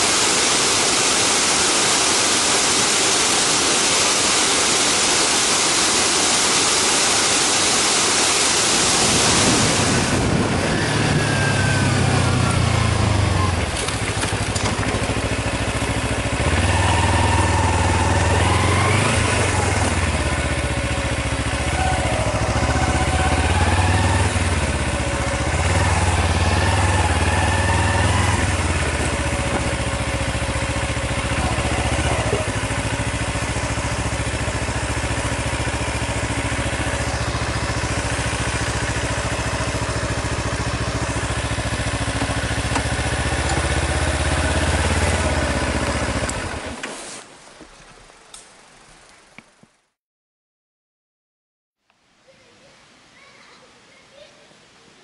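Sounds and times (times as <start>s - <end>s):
motorcycle engine revving and idling: 0.8s - 46.8s.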